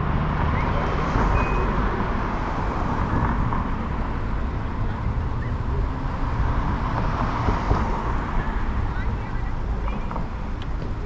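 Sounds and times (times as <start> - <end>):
wind and road rushing noise: 0.0 - 11.0.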